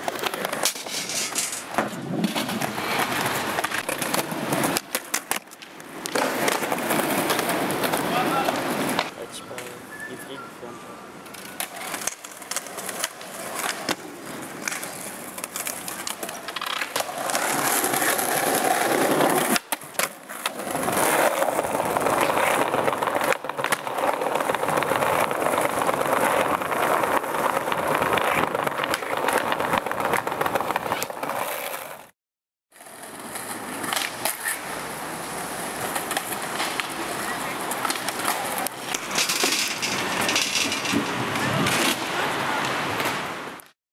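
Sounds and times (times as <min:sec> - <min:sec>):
skateboard clacks: 0:00.0 - 0:09.8, 0:11.2 - 0:32.1, 0:32.8 - 0:43.7
skateboard wheels rolling on concrete: 0:00.0 - 0:43.8.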